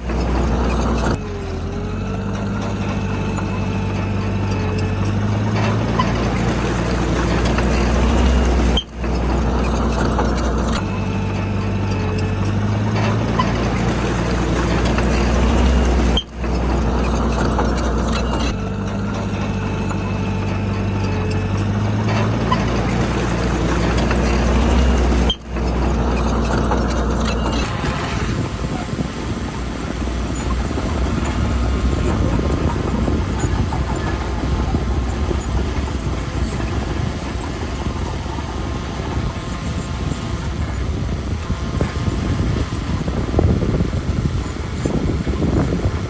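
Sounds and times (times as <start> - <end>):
bulldozer diesel engine working: 0.0 - 46.0.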